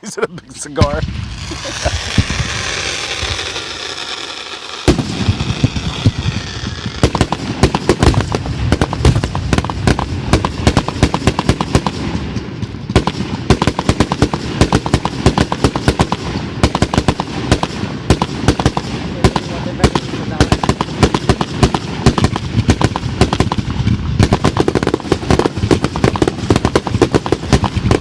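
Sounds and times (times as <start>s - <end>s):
firework fuse hissing: 0.4s - 28.0s
firecracker bangs and crackles: 0.6s - 28.0s.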